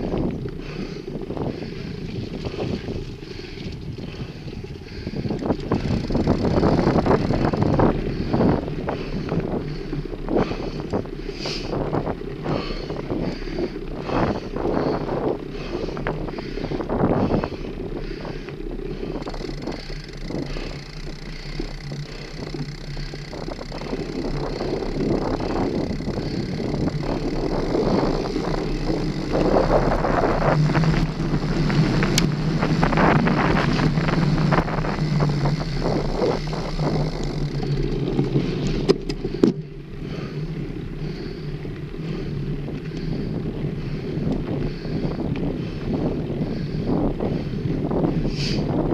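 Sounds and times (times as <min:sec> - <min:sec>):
bike rattling over bumps: 0:00.0 - 0:48.9
bike tyres rolling on dirt: 0:00.0 - 0:48.9
wind buffeting microphone: 0:00.0 - 0:48.9.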